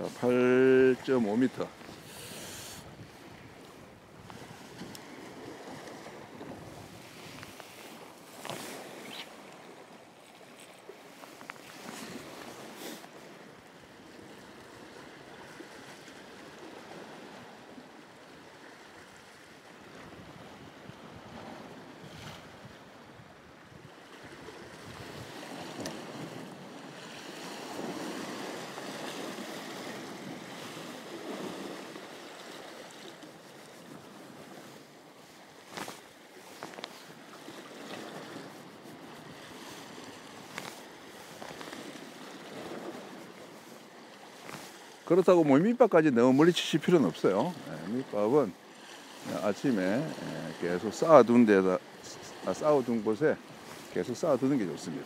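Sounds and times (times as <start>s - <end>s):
sea waves washing on shore: 0.0s - 55.0s
wind: 0.0s - 55.0s.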